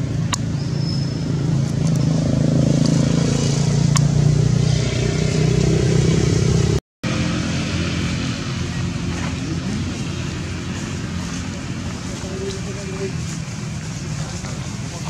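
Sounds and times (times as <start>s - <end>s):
motor engine humming: 0.0s - 15.0s.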